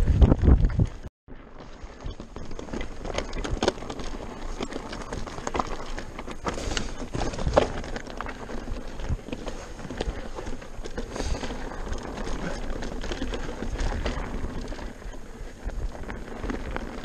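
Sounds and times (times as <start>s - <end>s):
bike rattling and knocking: 0.0s - 17.0s
tyres crunching over stones: 0.6s - 17.0s.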